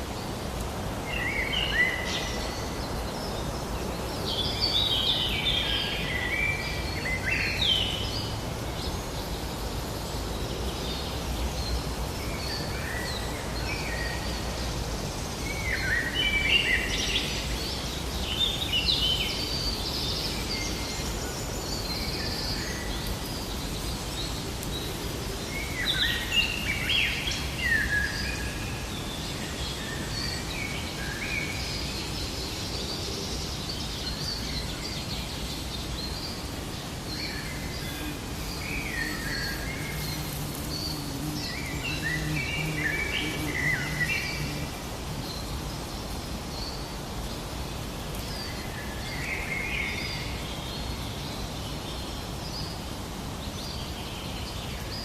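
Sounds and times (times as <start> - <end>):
outdoor hiss: 0.0 - 55.0
songbirds chirping: 0.0 - 55.0.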